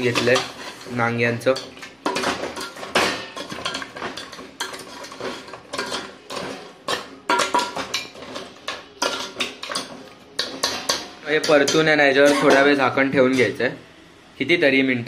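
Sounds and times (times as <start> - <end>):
metal ladle scraping a pot: 0.0 - 13.5.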